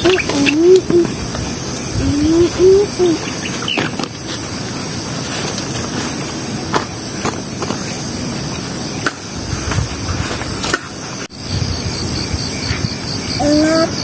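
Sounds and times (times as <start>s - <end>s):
insect chirping in fast pulse: 0.0s - 14.0s.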